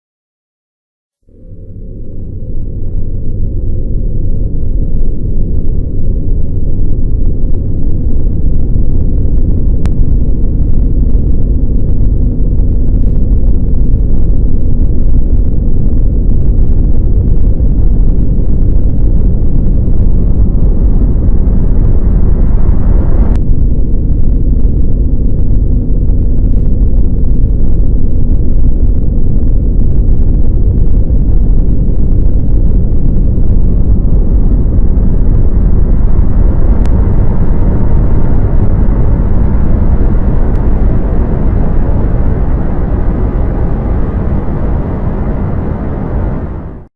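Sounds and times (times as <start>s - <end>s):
deep rumbling drone: 1.2s - 46.9s
faint low hum: 1.2s - 46.9s.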